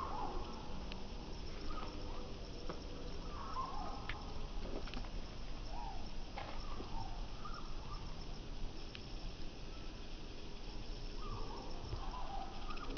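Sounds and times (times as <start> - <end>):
steady hiss and low rumble: 0.0 - 12.9.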